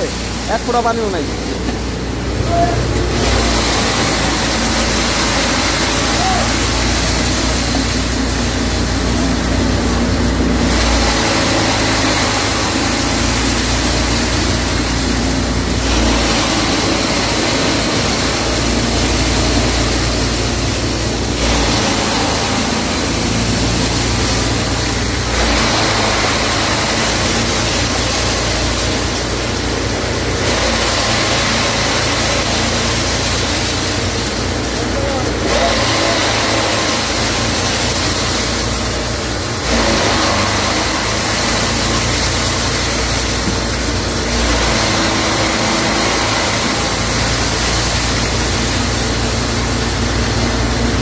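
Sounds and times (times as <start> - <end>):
blower fan running: 0.0 - 51.0.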